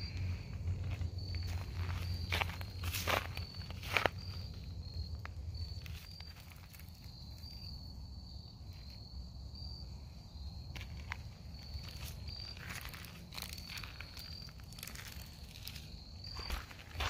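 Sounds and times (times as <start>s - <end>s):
soft footsteps on a trail: 0.0s - 7.6s, 10.6s - 17.0s
insects trilling: 0.0s - 17.0s.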